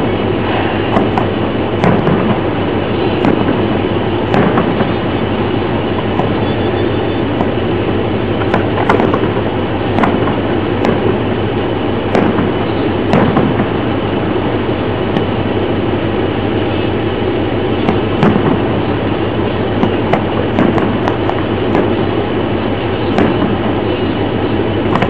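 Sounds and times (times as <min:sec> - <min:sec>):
fireworks bursting: 0:00.0 - 0:25.0
loud rumbling background noise: 0:00.0 - 0:25.0.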